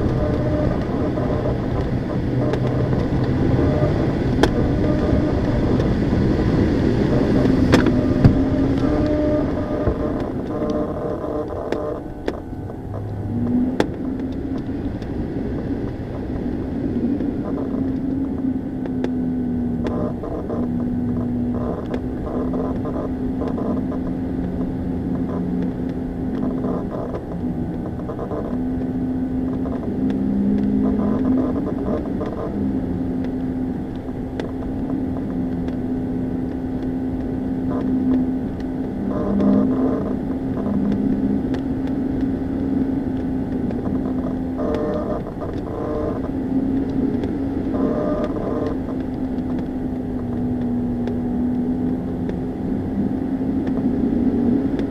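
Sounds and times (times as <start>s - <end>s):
plane piston engine droning: 0.0s - 54.9s
wind noise: 0.0s - 54.9s.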